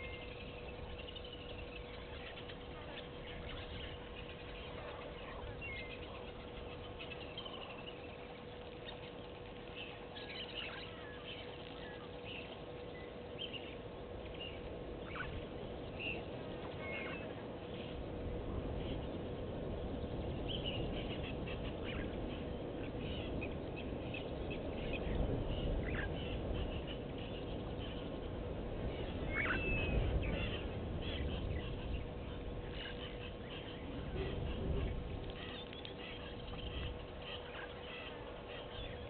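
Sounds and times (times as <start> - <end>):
bird chirps and calls: 0.0 - 18.0, 20.1 - 39.0
faint constant hum: 0.0 - 39.0
steady background hiss: 0.0 - 39.0.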